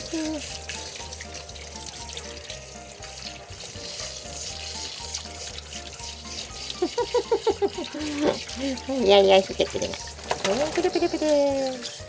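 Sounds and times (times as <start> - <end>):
shower sprayer water running: 0.0 - 12.0
soft background music: 0.0 - 12.0.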